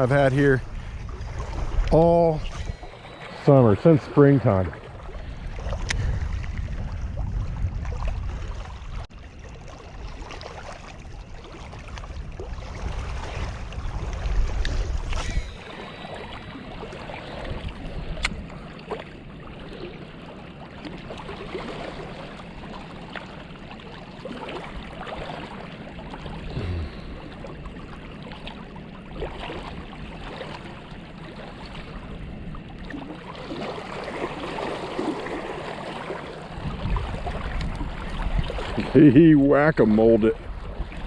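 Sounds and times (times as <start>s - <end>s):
water rushing at shore: 0.0s - 41.0s
wind: 0.0s - 41.0s.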